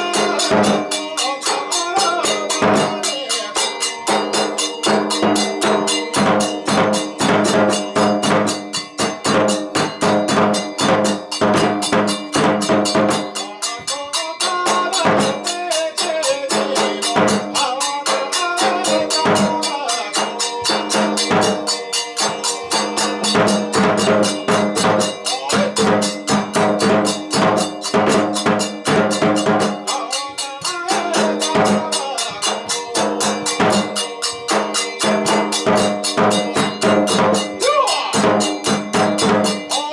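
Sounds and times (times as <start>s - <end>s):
fast crisp drumming: 0.0s - 39.9s.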